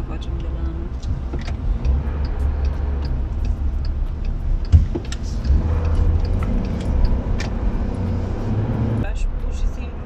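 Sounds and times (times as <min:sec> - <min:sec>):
car rumble inside cabin: 0:00.0 - 0:10.0.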